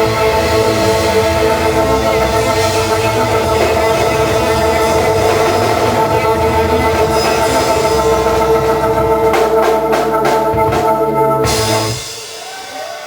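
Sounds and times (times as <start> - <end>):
organ chord: 0.0 - 12.4
band music: 0.0 - 13.0
drum and cymbal hits: 0.0 - 13.0.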